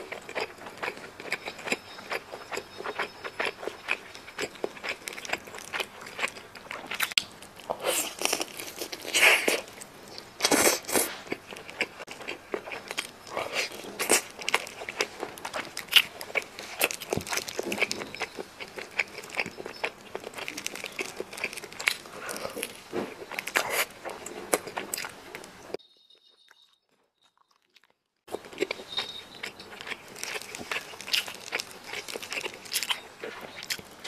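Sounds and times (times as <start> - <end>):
chewing and biting: 0.0 - 25.7, 26.6 - 34.0.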